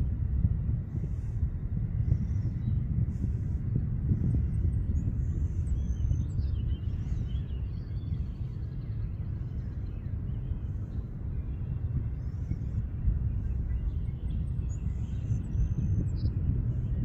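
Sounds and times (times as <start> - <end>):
distant jet airliner rumble: 0.0 - 17.0
small birds chirping: 2.0 - 17.0.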